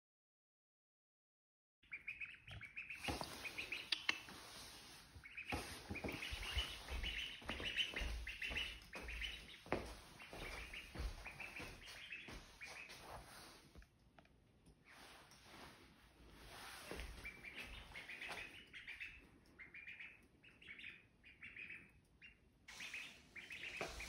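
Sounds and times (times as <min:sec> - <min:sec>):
ducklings peeping: 0:01.8 - 0:13.6, 0:16.4 - 0:24.0.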